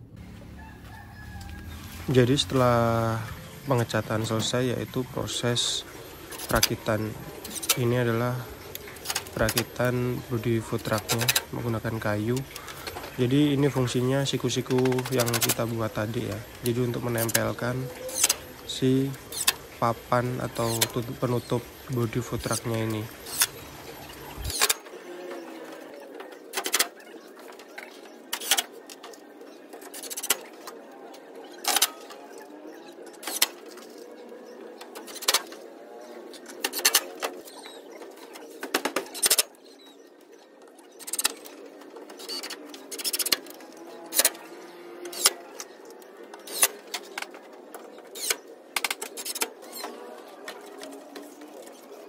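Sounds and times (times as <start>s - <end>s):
doves cooing: 0.0s - 52.0s.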